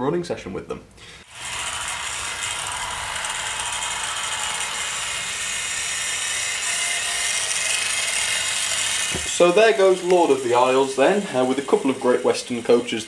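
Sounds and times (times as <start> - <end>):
model train motor whirring: 1.2 - 13.0.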